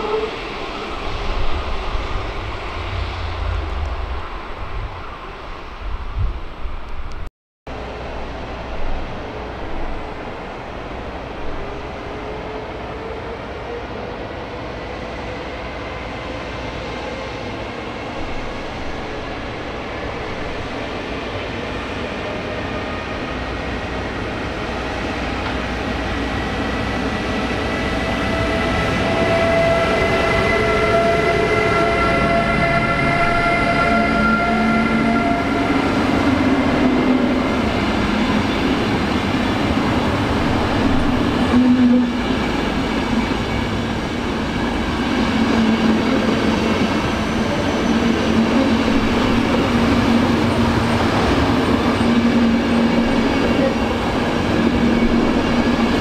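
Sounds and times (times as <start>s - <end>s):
train running past: 7.7s - 56.0s.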